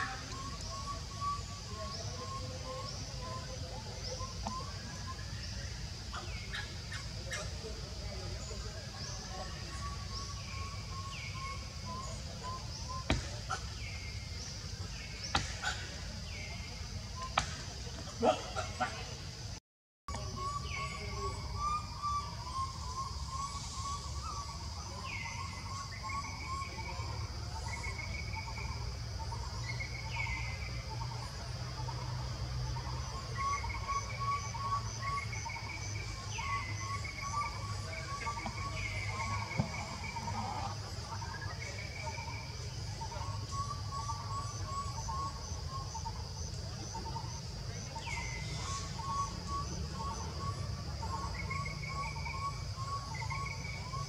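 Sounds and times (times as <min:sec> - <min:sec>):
whistled bird calls: 0:00.0 - 0:07.6, 0:08.4 - 0:17.6, 0:20.1 - 0:54.0
insect drone pulsing: 0:00.0 - 0:54.0.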